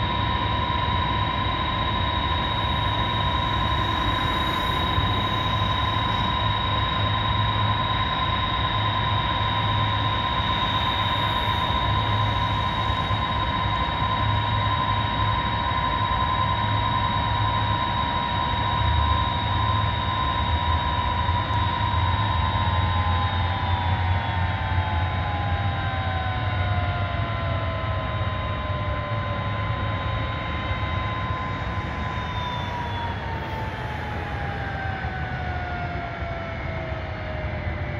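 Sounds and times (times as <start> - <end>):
jet engines whining: 0.0 - 37.9.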